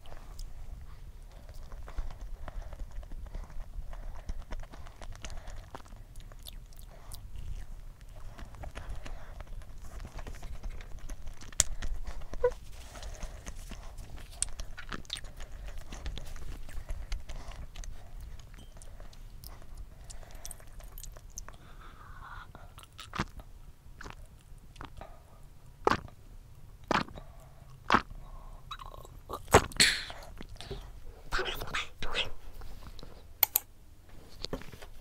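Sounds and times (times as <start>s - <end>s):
person chewing: 0.0s - 26.2s, 26.8s - 33.6s.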